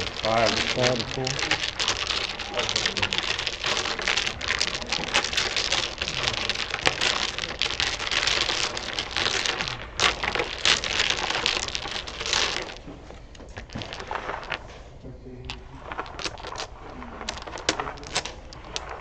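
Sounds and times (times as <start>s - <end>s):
dominoes clattering on wooden table: 0.0s - 12.8s, 13.5s - 14.7s, 15.5s - 19.0s.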